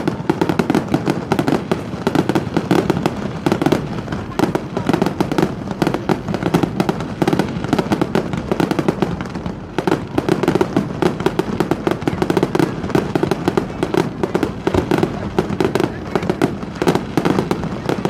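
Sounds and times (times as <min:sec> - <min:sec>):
fireworks bangs and pops: 0:00.0 - 0:18.0.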